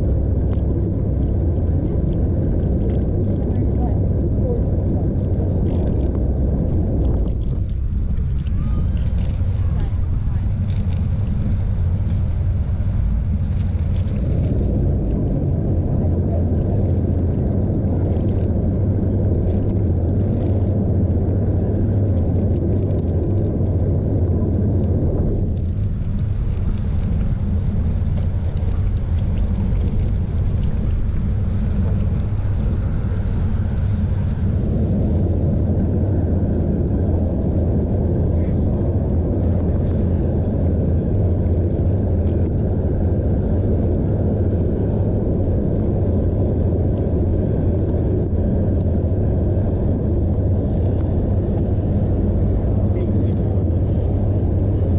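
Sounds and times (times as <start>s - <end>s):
road noise: 0.0s - 54.9s
wind rumble: 0.0s - 54.9s.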